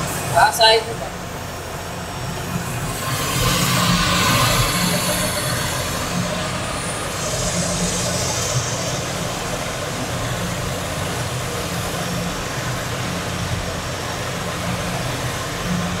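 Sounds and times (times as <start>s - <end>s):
metal lathe humming: 1.0s - 16.0s.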